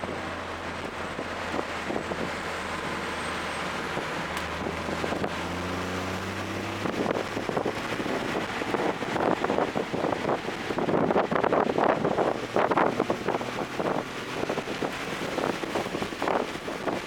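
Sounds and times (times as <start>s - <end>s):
car engine revving: 0.0s - 17.0s
wind and road noise: 0.0s - 17.0s.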